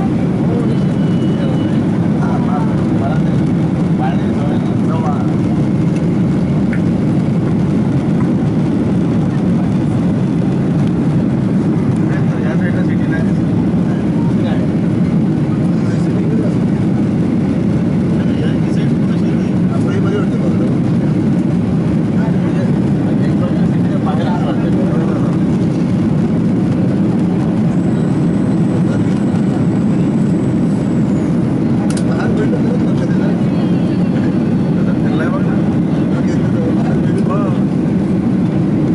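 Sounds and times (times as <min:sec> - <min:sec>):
airliner engine noise in cabin: 0:00.0 - 0:38.9.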